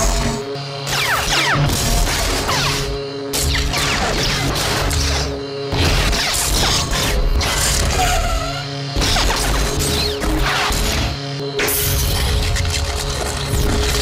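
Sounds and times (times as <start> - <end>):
lightsaber hum: 0.0 - 14.0.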